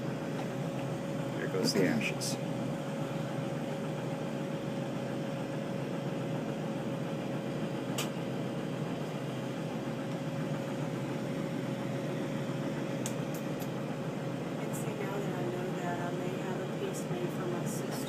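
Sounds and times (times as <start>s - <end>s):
constant hum: 0.0s - 18.0s.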